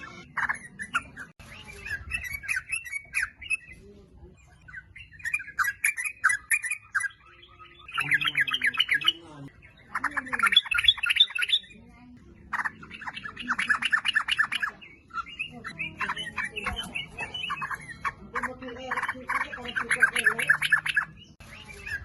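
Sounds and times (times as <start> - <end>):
bird chattering song: 0.0 - 22.0.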